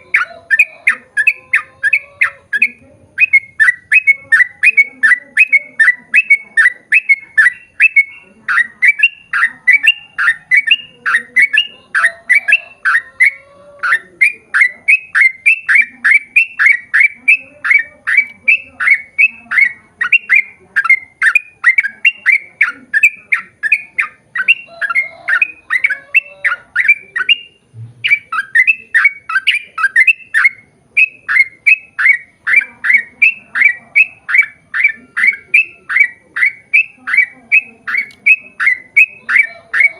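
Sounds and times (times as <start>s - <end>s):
bird singing bright notes: 0.0s - 39.9s.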